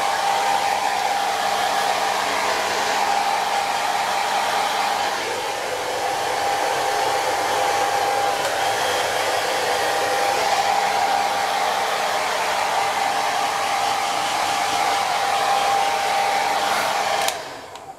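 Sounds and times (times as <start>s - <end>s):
hair dryer running: 0.0s - 17.9s.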